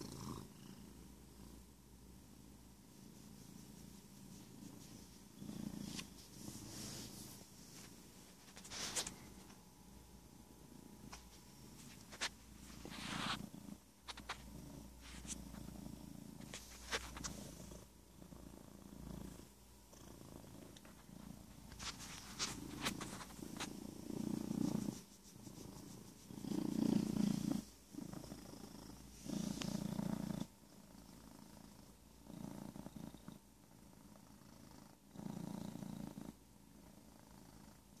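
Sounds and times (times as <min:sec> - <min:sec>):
cat purring: 0:00.0 - 0:38.0.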